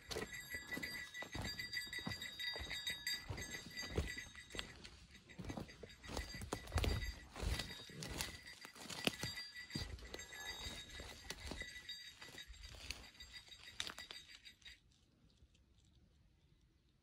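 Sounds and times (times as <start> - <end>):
footsteps on forest trail: 0.0 - 14.2.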